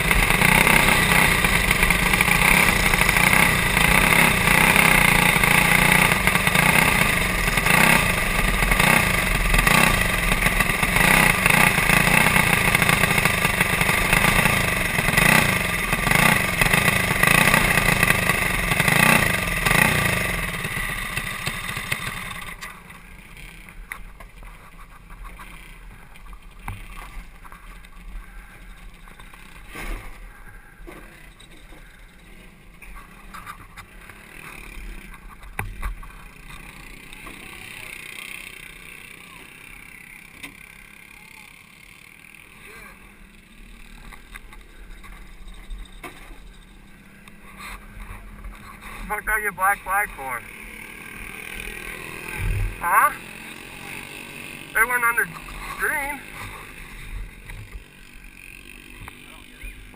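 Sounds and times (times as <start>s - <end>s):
go-kart engine running at speed: 0.0s - 59.9s.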